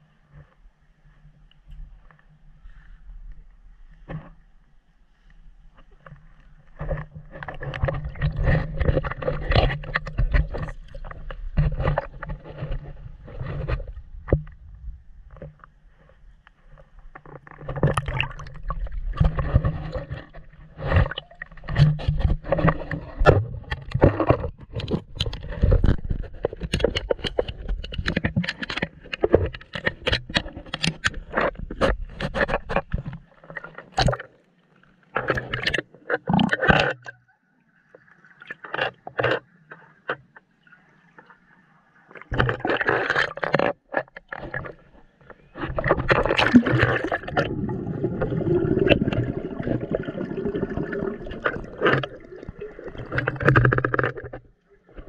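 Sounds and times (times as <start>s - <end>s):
water sloshing and splashing: 1.9s - 55.0s.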